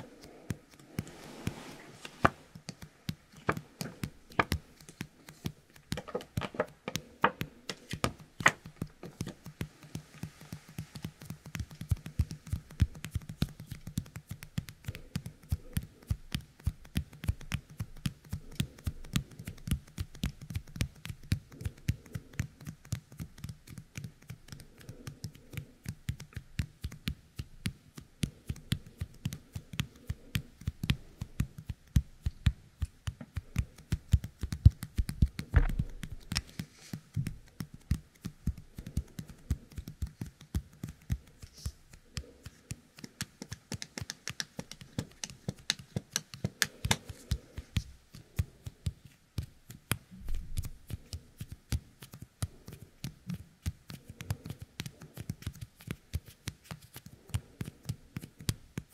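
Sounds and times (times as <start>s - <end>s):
sticky fingertips clicking and crackling: 0.0s - 58.9s.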